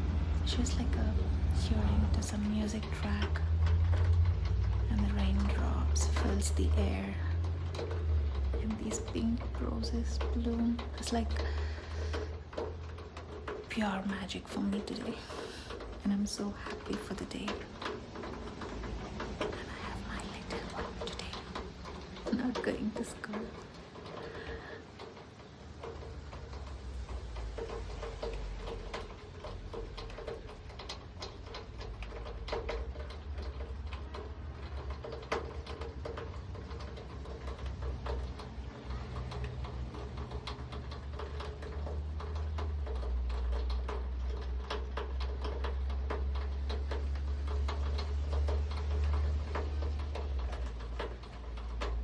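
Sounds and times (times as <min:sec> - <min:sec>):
raindrops pattering: 0:00.0 - 0:52.0.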